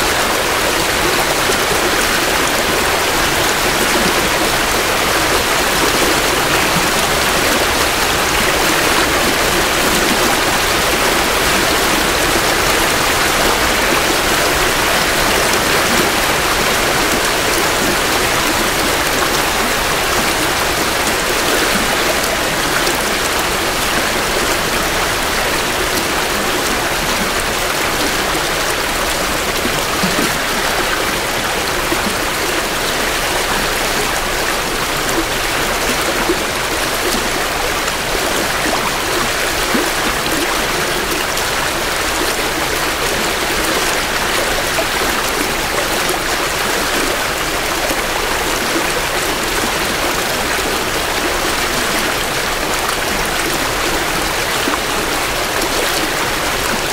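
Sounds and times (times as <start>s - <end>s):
creek flowing over rocks: 0.0s - 56.9s.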